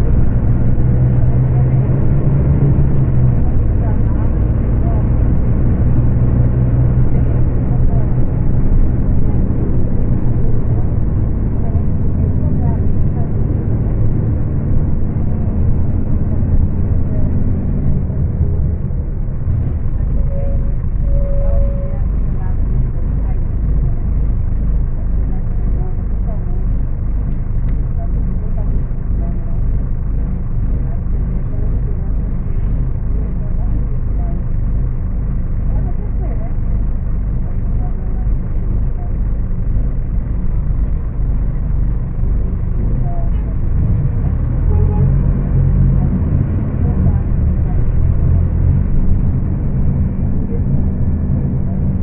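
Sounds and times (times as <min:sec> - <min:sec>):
bus diesel engine droning: 0:00.0 - 0:52.0.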